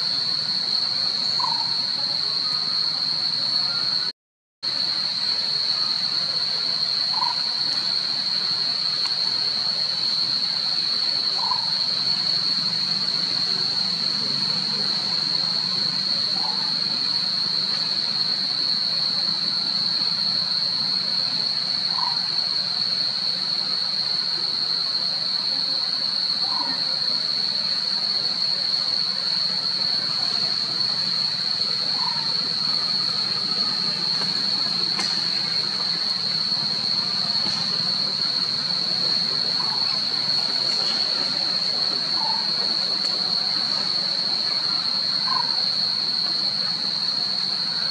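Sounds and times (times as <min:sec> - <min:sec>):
high-pitched insect drone: 0:00.0 - 0:04.1, 0:04.7 - 0:47.8
short insect call: 0:00.0 - 0:04.1, 0:04.7 - 0:47.9.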